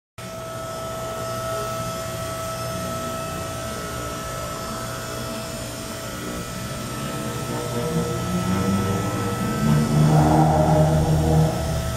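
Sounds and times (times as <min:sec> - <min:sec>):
lift motor humming and whining: 0:00.2 - 0:11.9.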